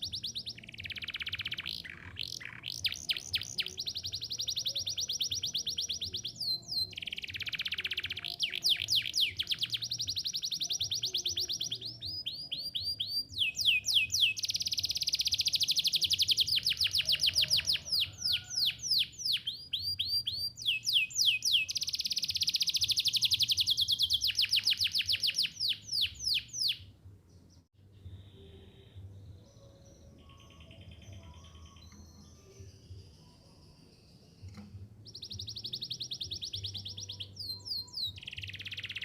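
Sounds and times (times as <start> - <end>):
canary singing trills: 0.0 - 34.4, 35.0 - 39.0.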